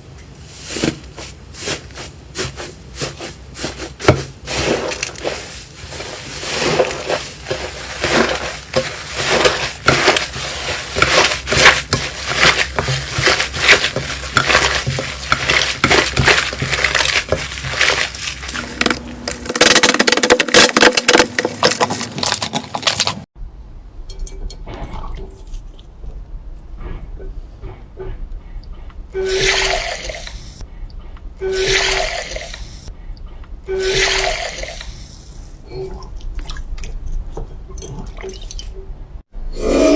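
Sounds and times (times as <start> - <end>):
low steady hum: 0.0 - 39.6.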